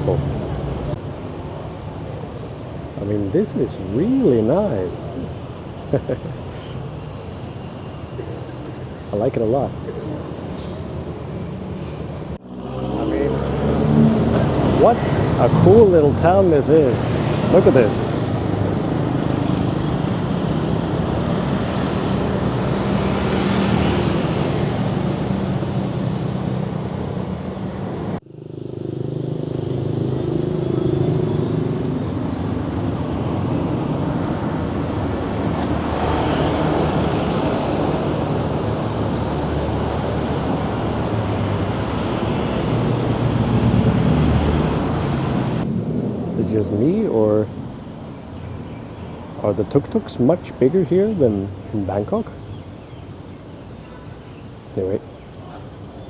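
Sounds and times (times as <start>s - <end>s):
vehicle engines passing: 0.0s - 56.0s.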